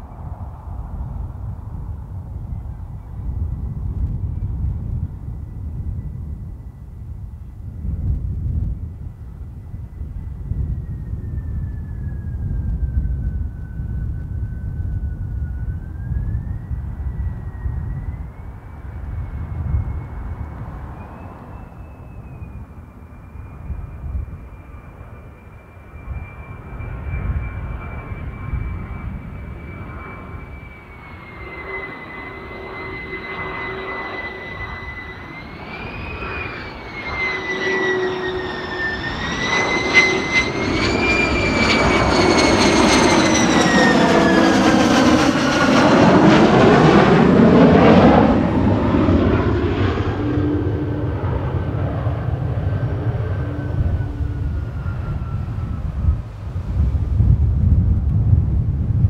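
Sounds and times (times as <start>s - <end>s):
wind rumbling on microphone: 0.0s - 59.0s
jet engine whining: 8.7s - 59.0s.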